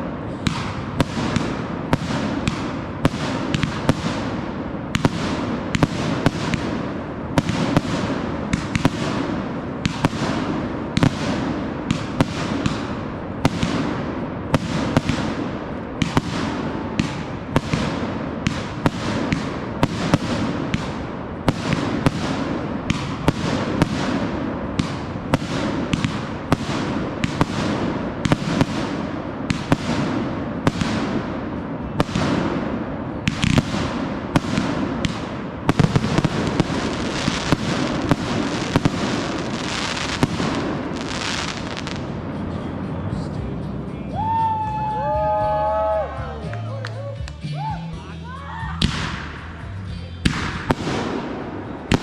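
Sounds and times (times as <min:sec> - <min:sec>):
fireworks bangs: 0:00.0 - 0:43.6, 0:48.8 - 0:52.0
fireworks crackle: 0:00.0 - 0:43.8, 0:48.8 - 0:52.0.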